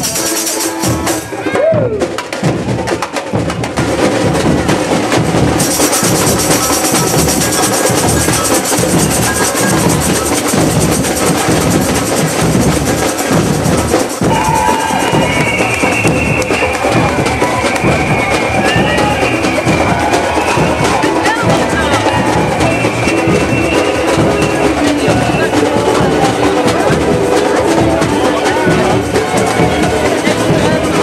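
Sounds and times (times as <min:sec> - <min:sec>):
parade drumming: 0:00.0 - 0:31.0.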